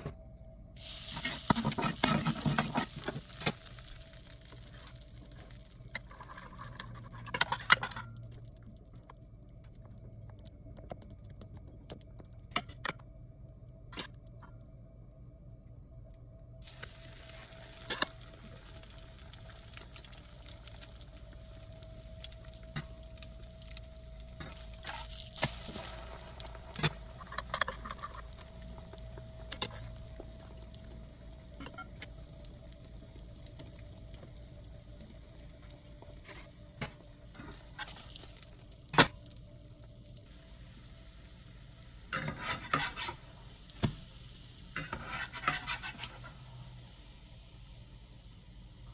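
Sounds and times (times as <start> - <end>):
faint steady hum: 0.0 - 48.9
bread sizzling in a pan: 0.8 - 8.4, 16.6 - 48.9.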